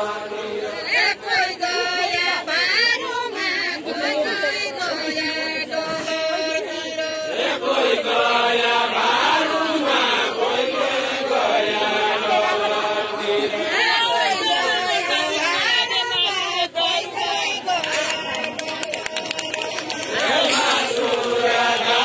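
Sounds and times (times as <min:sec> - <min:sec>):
men singing in unison: 0:00.0 - 0:18.9, 0:19.8 - 0:22.0.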